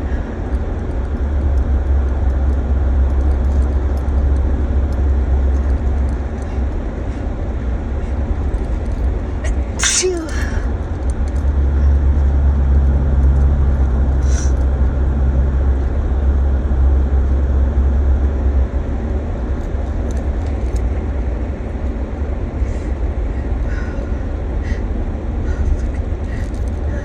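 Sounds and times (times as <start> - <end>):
low hum: 0.0 - 27.0
road and engine rumble: 0.0 - 27.0.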